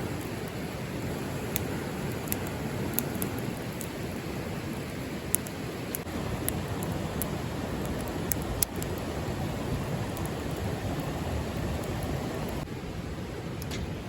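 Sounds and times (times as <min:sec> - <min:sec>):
fire crackling and popping: 0:00.0 - 0:12.7
fire burning low rush: 0:00.0 - 0:14.0.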